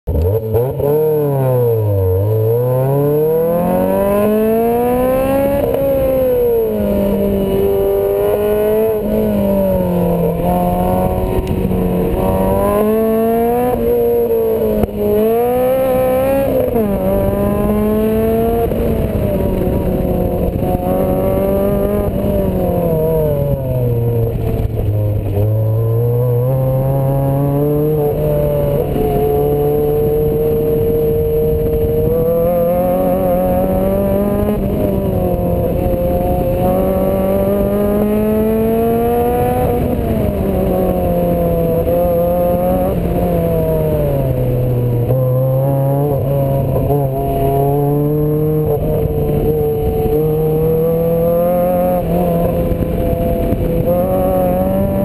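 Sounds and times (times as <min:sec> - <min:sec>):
car engine revving hard: 0:00.1 - 0:55.0.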